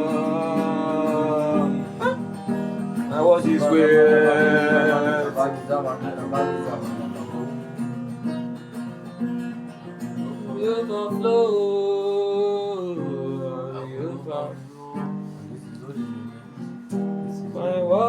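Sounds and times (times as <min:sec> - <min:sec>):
slow worship music: 0:00.0 - 0:08.6, 0:10.0 - 0:18.0
plucked guitar: 0:00.0 - 0:18.0.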